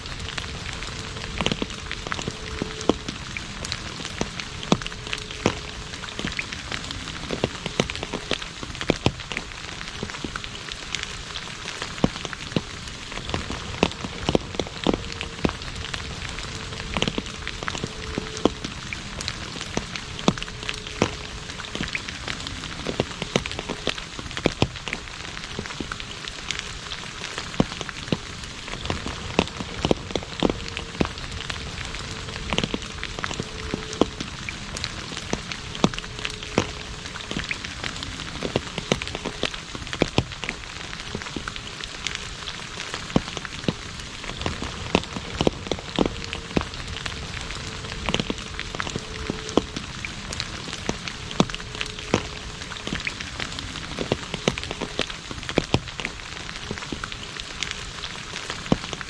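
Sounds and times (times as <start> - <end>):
rain on asphalt road: 0.0 - 59.0.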